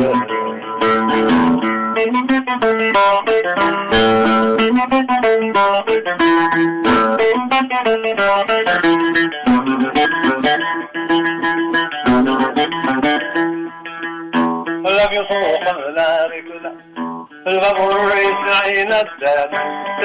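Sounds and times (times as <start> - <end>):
plucked lute melody: 0.0 - 20.0.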